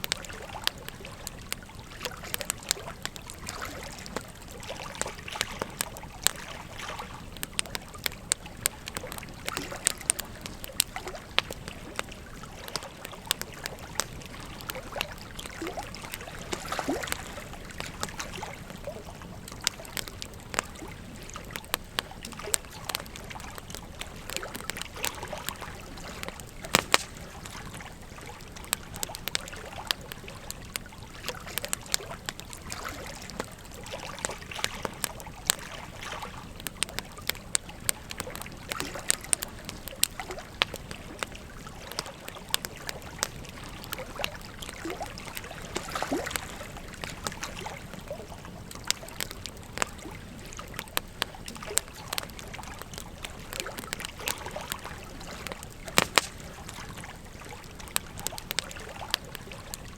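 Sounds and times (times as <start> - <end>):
bonfire crackling and popping: 0.0 - 59.9
flowing river water: 0.0 - 59.9.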